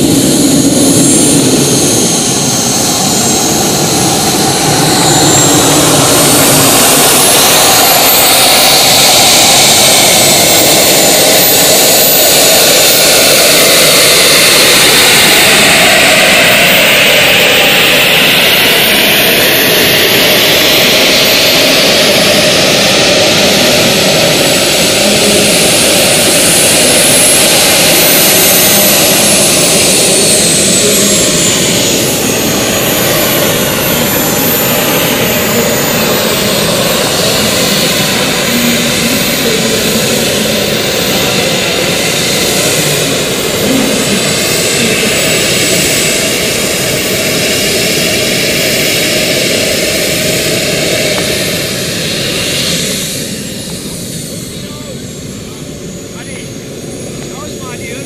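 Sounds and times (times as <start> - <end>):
model jet turbines whining: 0.0 - 58.0.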